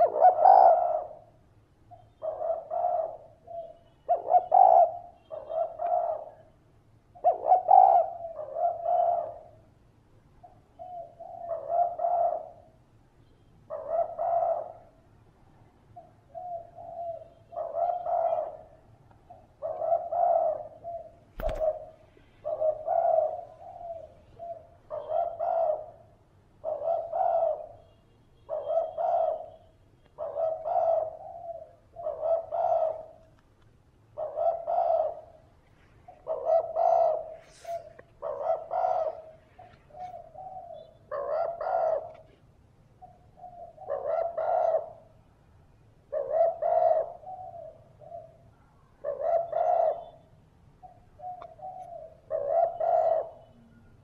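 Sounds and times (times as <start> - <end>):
dove cooing: 0.0 - 9.6, 10.4 - 12.8, 13.7 - 15.0, 15.9 - 27.8, 28.5 - 33.2, 34.2 - 35.5, 36.1 - 45.1, 46.1 - 48.4, 49.0 - 53.8.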